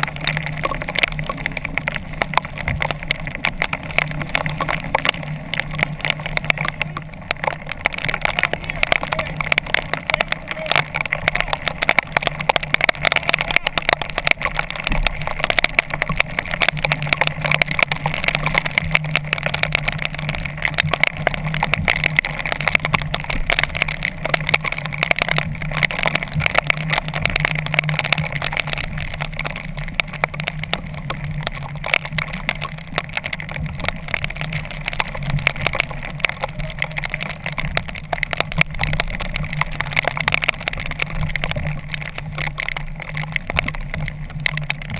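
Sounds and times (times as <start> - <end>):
water rushing past hulls: 0.0 - 44.9.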